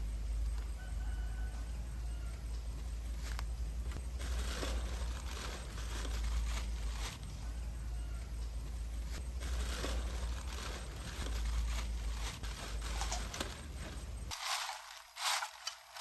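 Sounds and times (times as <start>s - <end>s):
steady low hum: 0.0s - 16.0s
rustling and scraping: 2.2s - 16.0s.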